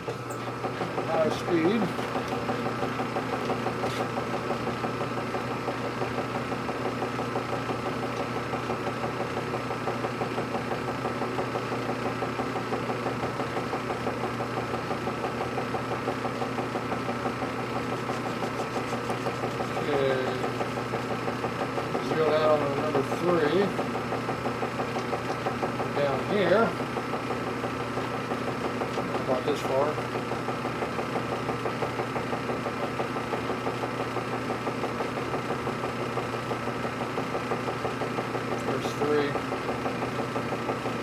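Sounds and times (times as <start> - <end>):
metal lathe running: 0.0 - 41.0.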